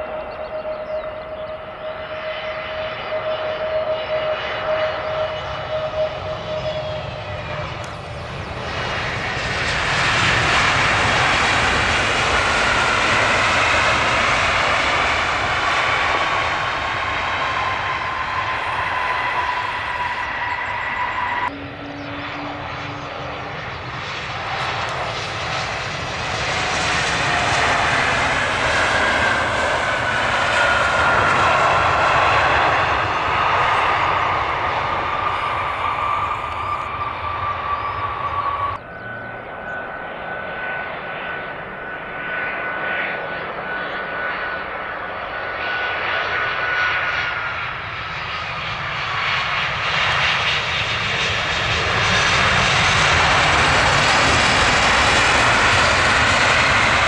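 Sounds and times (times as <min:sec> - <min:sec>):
jet engine whine: 0:00.0 - 0:57.0
jet engine rush: 0:01.8 - 0:39.4, 0:43.8 - 0:57.0.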